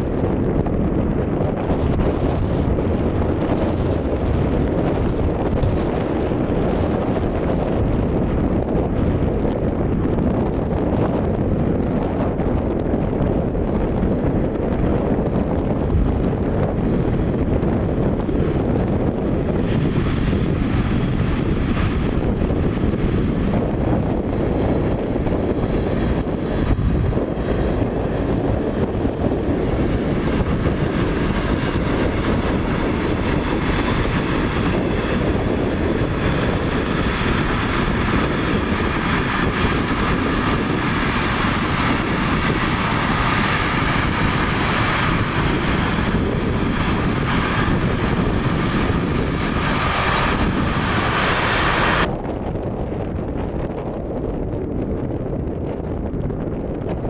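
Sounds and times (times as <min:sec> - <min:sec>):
train whine: 0:00.0 - 0:54.3
train wheels rumbling on rail: 0:00.0 - 0:57.0.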